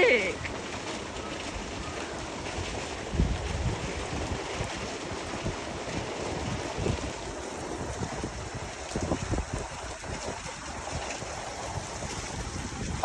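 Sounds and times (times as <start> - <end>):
hail pelting the ground: 0.0 - 13.0
wind buffeting microphone: 0.0 - 13.0.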